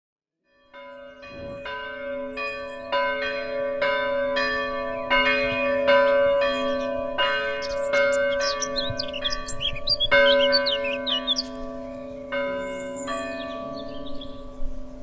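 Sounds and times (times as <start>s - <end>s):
bells ringing: 0.5s - 15.0s.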